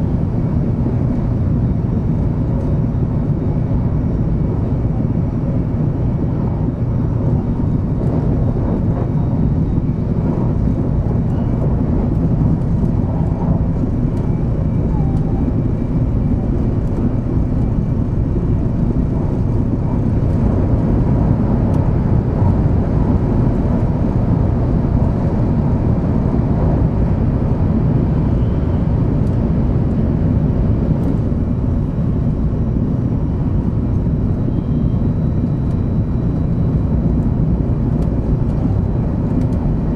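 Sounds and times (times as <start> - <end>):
train running noise inside car: 0.0 - 39.9.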